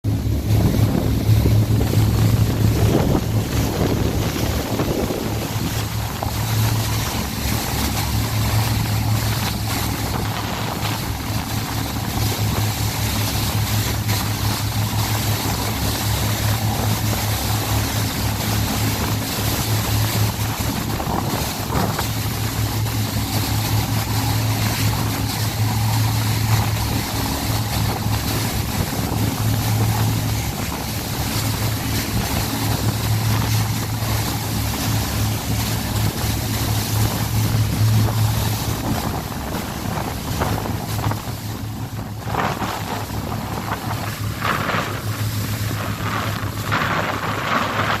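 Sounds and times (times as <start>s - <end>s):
boat engines humming: 0.0s - 48.0s
water rushing along hull: 0.0s - 48.0s
wind buffeting microphone: 0.0s - 48.0s.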